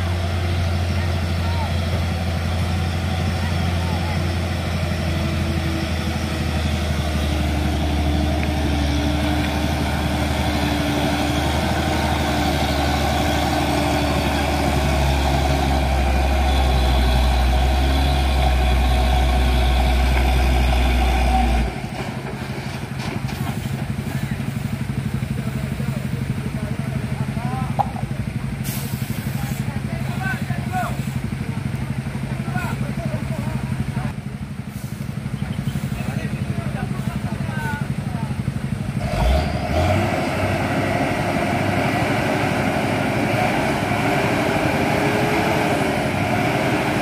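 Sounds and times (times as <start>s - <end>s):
diesel truck engine pulling hard: 0.0s - 47.0s.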